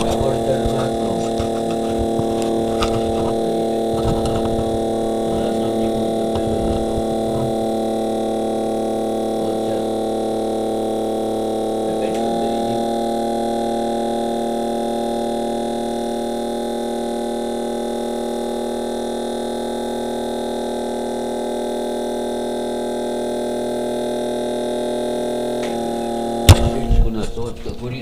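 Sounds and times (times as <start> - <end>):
electric motor humming: 0.0 - 28.0.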